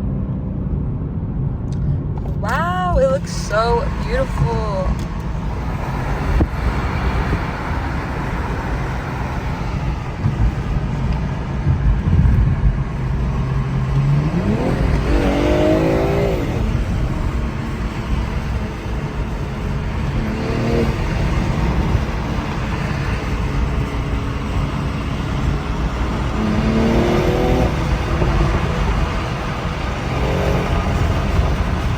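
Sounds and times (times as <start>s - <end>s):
car engine rumbling and revving: 0.0s - 31.9s.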